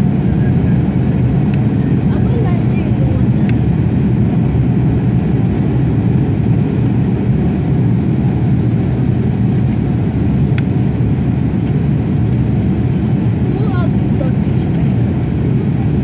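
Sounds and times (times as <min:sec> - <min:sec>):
airplane cabin engine noise: 0:00.0 - 0:16.0.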